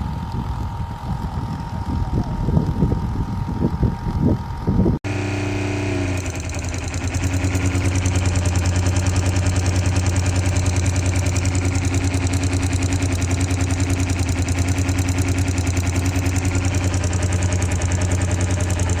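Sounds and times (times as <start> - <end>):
water pump humming and pulsing: 0.0 - 19.0.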